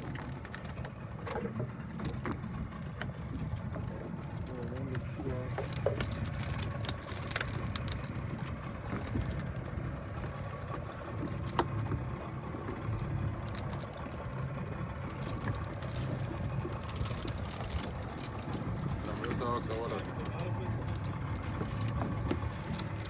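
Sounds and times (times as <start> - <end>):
boat engine running: 0.0 - 23.0
water splashes: 0.0 - 23.0.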